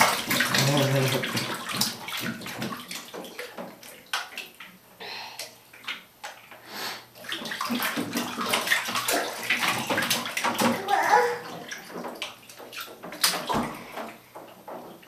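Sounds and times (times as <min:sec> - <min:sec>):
bathwater splashing: 0:00.0 - 0:15.0.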